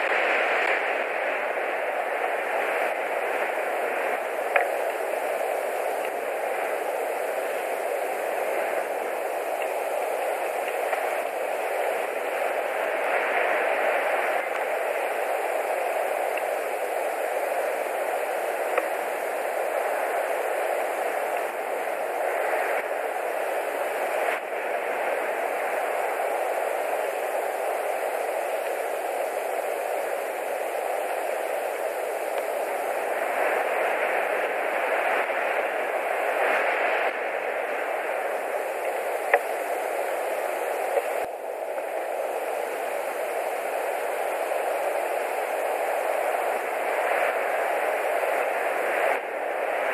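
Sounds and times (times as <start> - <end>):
wind rushing through treetop: 0.0 - 49.9.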